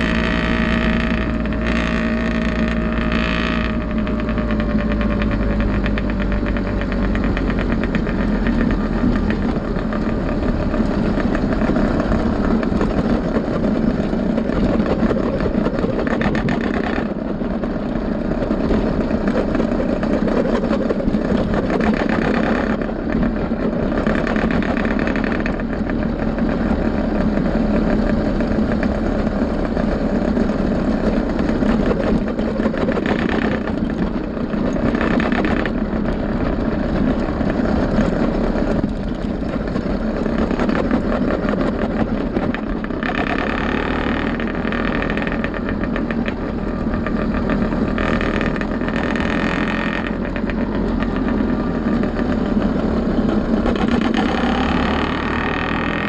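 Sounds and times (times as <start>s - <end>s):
two-stroke engine running: 0.0s - 56.0s.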